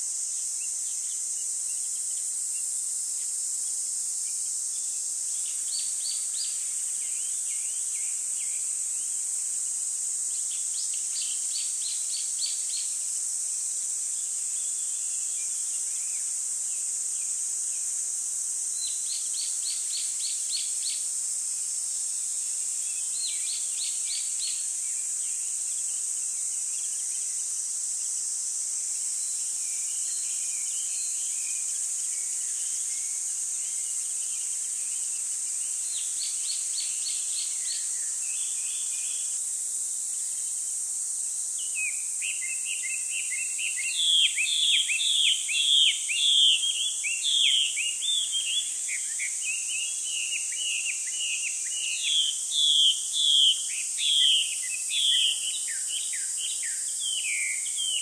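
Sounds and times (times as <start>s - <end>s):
steady high-pitched hiss: 0.0s - 58.0s.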